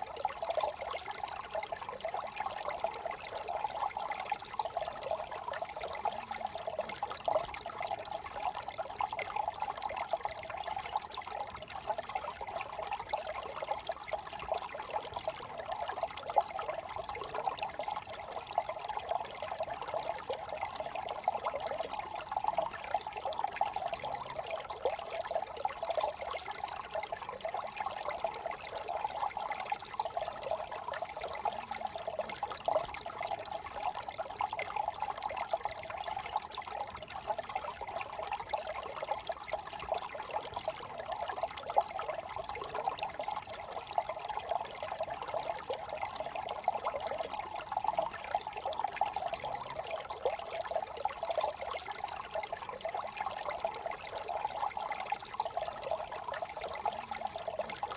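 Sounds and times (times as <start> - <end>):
brook trickling: 0.0 - 57.9.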